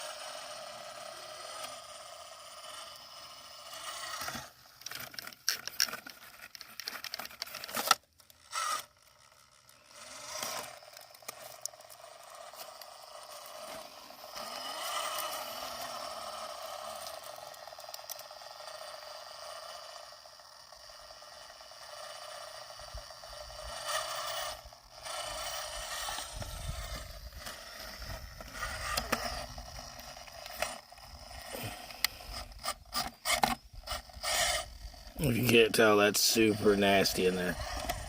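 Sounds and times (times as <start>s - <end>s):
small electric motor whirring: 0.0s - 38.0s
tyres scraping over rock: 2.6s - 19.9s, 23.6s - 38.0s.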